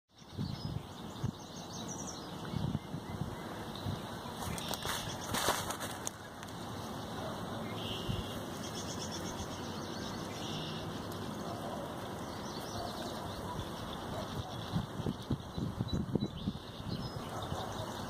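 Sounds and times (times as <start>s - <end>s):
faint birds chirping: 0.1s - 18.0s.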